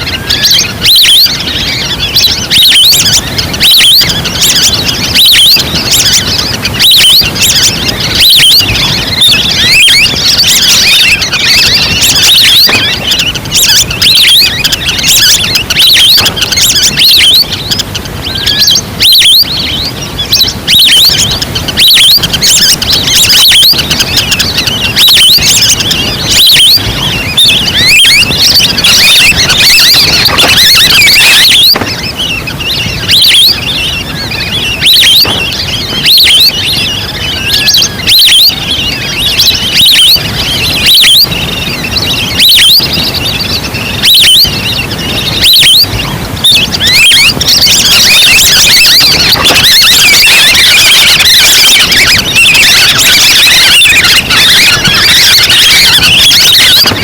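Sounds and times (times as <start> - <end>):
ducks whistling: 0.0 - 57.0.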